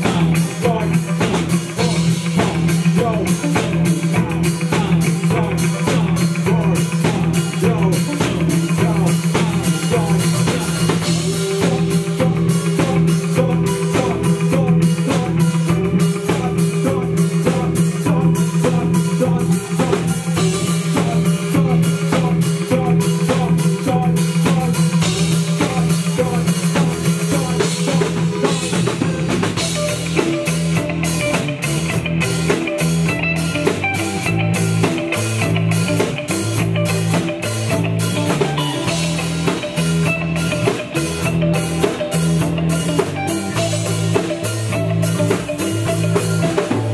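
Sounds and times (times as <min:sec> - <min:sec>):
bass guitar: 0:00.0 - 0:46.9
drum kit beat: 0:00.0 - 0:46.9
electric guitar: 0:00.0 - 0:46.9.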